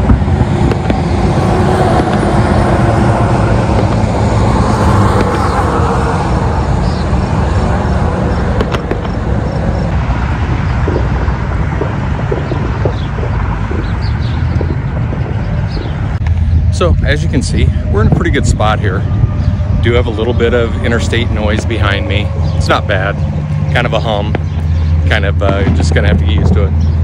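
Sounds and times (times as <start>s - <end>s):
highway traffic hum: 0.0s - 27.0s.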